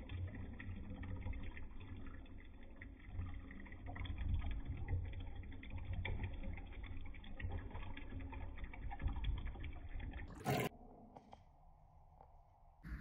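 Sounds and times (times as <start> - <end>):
liquid pouring into mug: 0.0 - 10.7.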